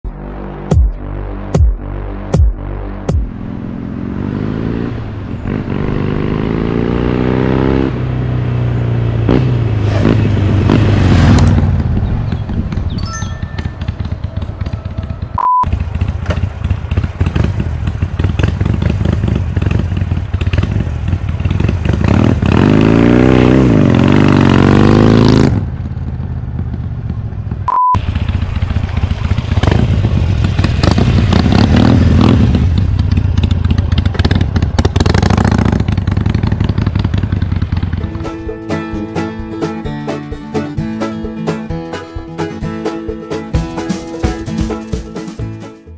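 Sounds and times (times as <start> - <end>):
motorcycle engine revving: 0.7 - 38.5.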